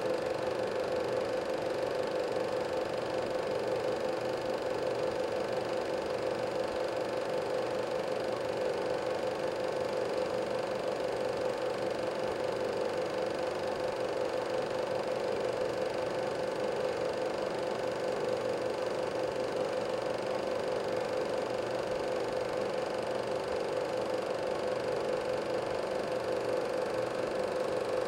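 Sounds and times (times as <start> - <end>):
film projector whirring: 0.0 - 28.0.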